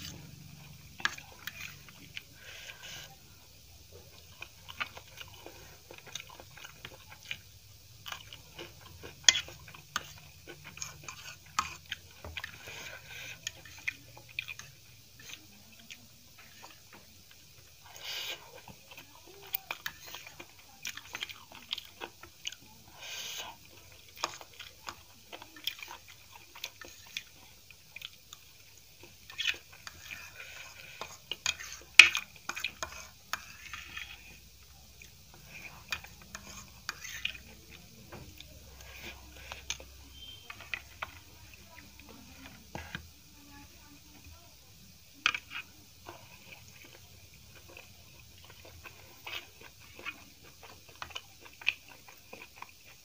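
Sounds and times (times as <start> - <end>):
chewing noodles: 0.0 - 53.0.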